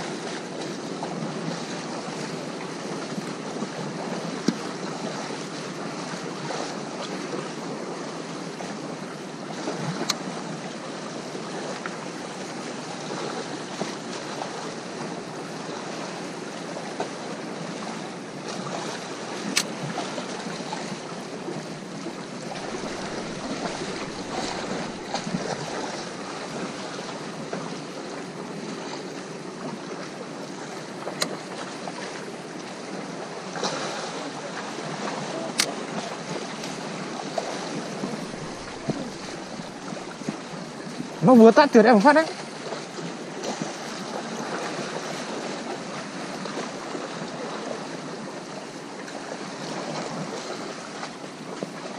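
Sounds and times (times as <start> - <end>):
surf washing onto shore: 0.0 - 51.9.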